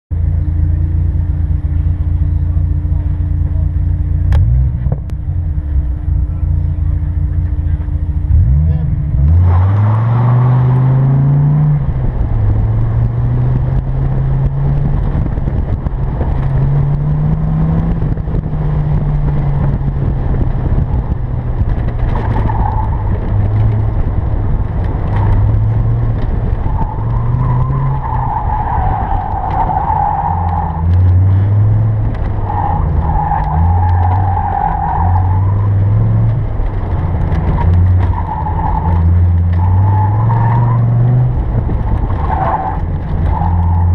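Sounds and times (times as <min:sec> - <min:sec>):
car engine revving: 0:00.2 - 0:43.9
tires squealing: 0:05.6 - 0:43.9.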